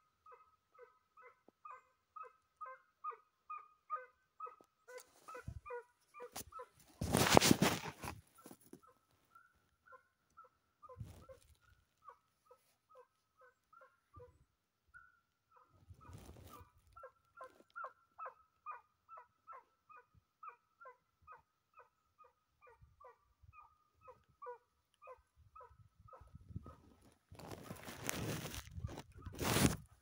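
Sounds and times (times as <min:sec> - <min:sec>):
faint dog barking: 0:00.2 - 0:06.8, 0:08.8 - 0:14.3, 0:15.0 - 0:28.2.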